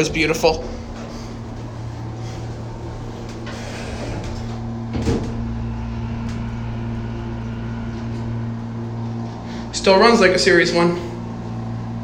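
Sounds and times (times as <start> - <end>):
elevator hum: 0.0 - 12.0.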